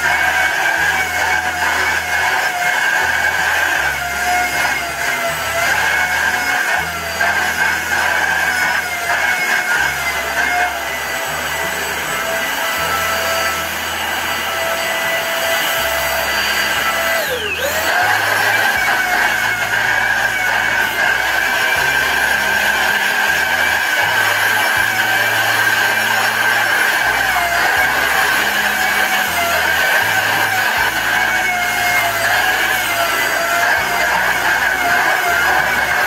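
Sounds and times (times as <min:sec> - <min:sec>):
handheld vacuum cleaner whine: 0:00.0 - 0:36.0.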